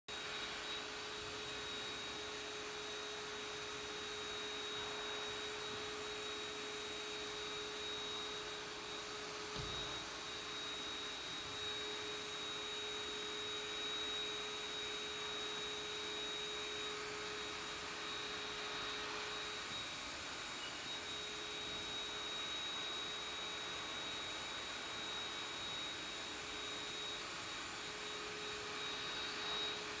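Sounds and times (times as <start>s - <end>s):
vacuum cleaner running: 0.1s - 30.0s.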